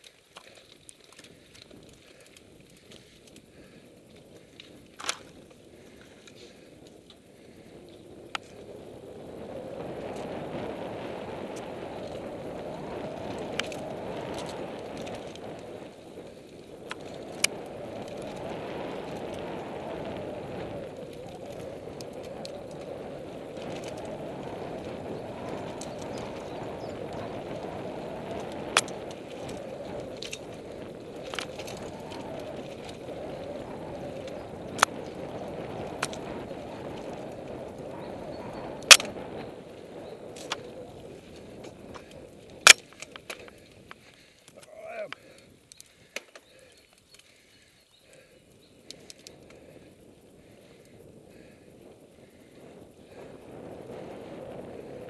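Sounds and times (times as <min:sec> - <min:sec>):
tyres and wind rushing: 0:00.0 - 0:55.0.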